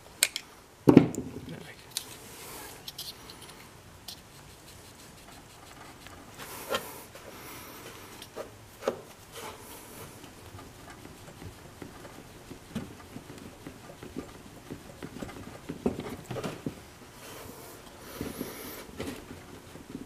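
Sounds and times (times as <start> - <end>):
rag rubbing on plastic filter: 2.2 - 20.0.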